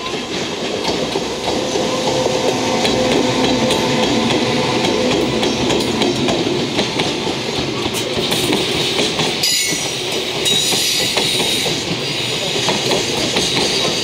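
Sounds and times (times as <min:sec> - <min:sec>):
train rumbling past: 0:00.0 - 0:14.0
wheels clacking over rail joints: 0:00.0 - 0:14.0.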